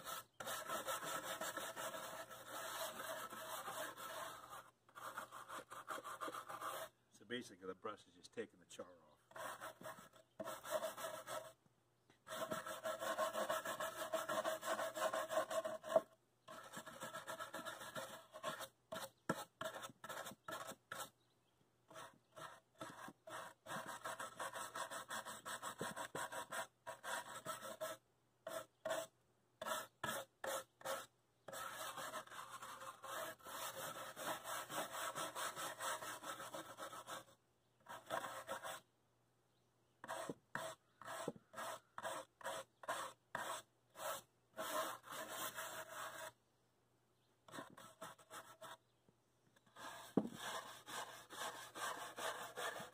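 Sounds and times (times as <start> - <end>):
stiff brush scrubbing wood: 0.0 - 6.9, 9.3 - 11.5, 12.2 - 21.1, 21.9 - 37.3, 40.0 - 46.3, 49.7 - 52.9.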